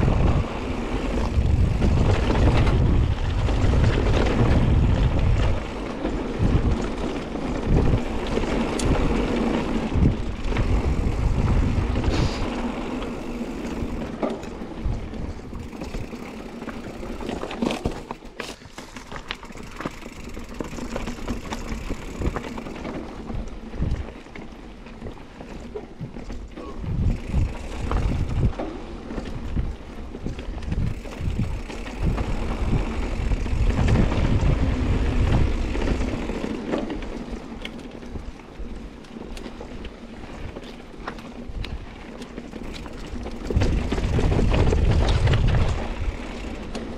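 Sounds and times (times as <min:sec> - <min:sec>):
wind buffeting microphone: 0:00.0 - 0:24.4, 0:25.9 - 0:37.4, 0:41.4 - 0:46.9
bike rattling and knocking: 0:00.0 - 0:46.9
bike tyres rolling on dirt: 0:00.0 - 0:46.9.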